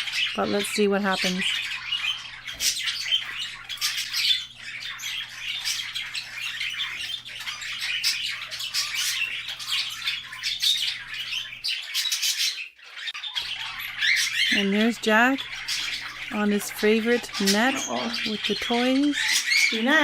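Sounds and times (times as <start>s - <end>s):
budgies chattering and chirping: 0.0s - 20.0s.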